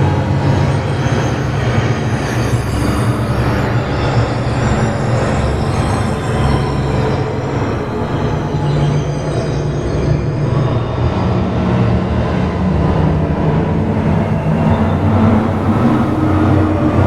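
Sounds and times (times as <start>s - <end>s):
ambient electronic drone: 0.0s - 17.0s.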